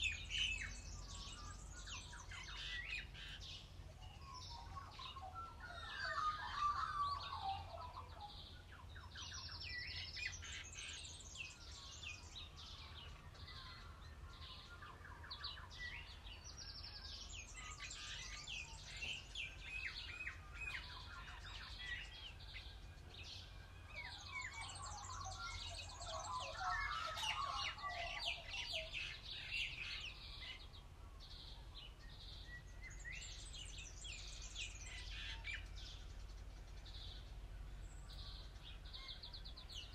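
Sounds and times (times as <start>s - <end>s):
low warbling bird calls: 0.0s - 39.9s
wild birds chirping and trilling: 0.0s - 39.9s.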